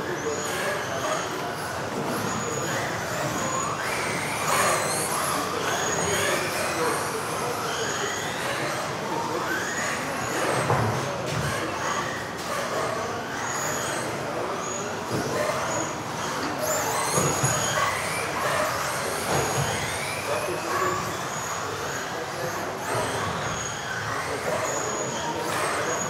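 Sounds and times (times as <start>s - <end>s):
rc car motor whine: 0.0s - 26.0s.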